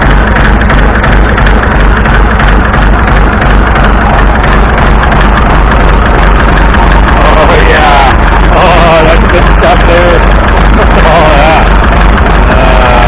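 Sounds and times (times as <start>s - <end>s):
engine knocking: 0.0s - 13.0s
tractor engine running: 0.0s - 13.0s.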